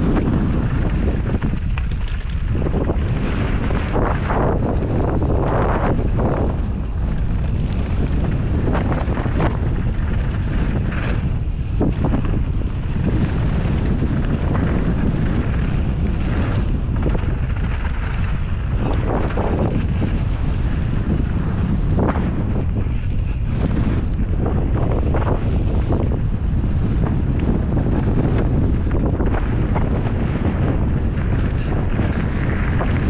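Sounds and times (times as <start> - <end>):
tyres rumbling on gravel: 0.0 - 33.0
wind buffeting microphone: 0.0 - 33.0.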